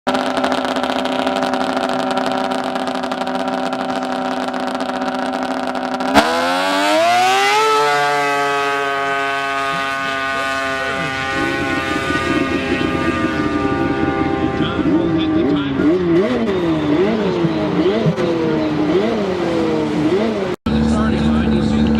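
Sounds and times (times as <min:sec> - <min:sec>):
snowmobile engine revving: 0:00.1 - 0:21.9.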